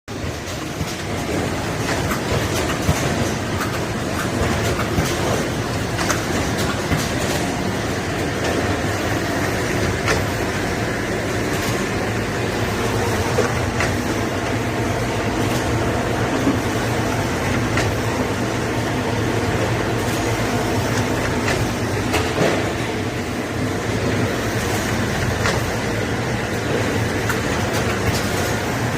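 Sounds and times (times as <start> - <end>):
shrink-wrapping machine drone: 0.1 - 28.9.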